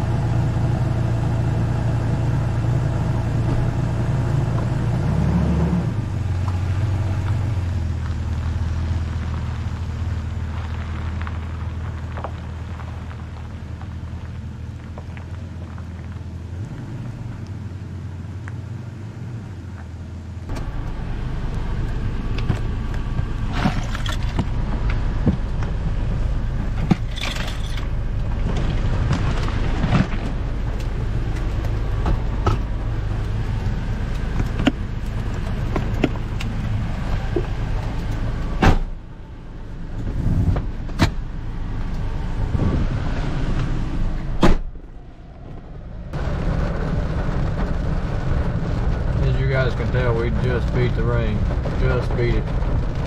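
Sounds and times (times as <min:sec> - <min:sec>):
engine hum from inside cab: 0:00.0 - 0:53.0.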